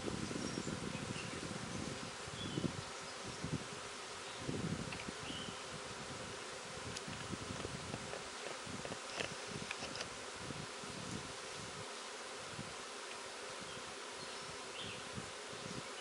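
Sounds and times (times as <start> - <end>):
bee swarm buzzing: 0.0 - 16.0.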